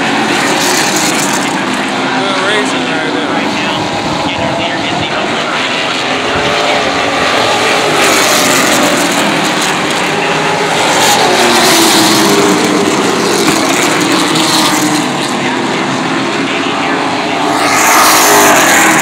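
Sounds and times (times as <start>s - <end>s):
racing car engines passing: 0.0s - 19.0s.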